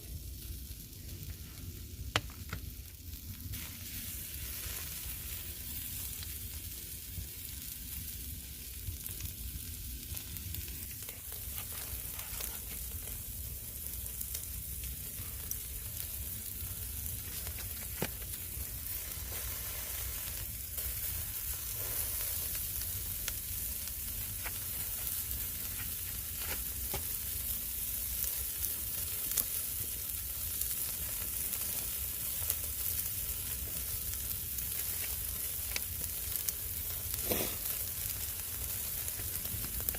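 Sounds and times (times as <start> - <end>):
fire pops and crackles: 0.0 - 39.9
meat sizzling: 0.0 - 39.9.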